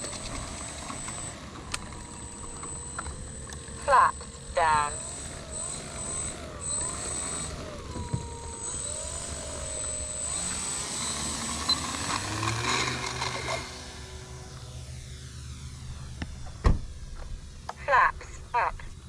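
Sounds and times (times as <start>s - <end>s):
model plane motor whining: 0.0s - 17.8s.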